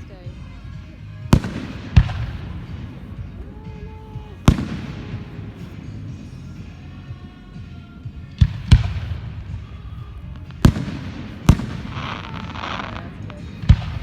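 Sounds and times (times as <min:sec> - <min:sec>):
fireworks bangs: 0:01.1 - 0:14.0.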